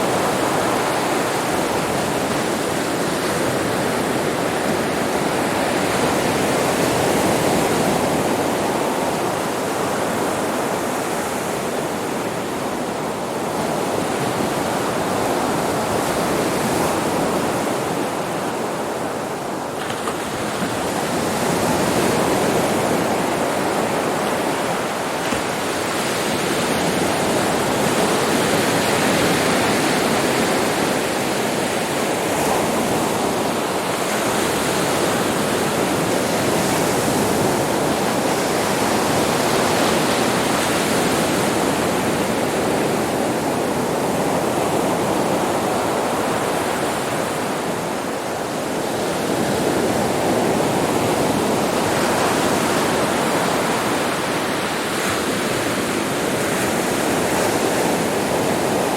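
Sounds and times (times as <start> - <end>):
sea waves breaking on a beach: 0.0 - 58.9.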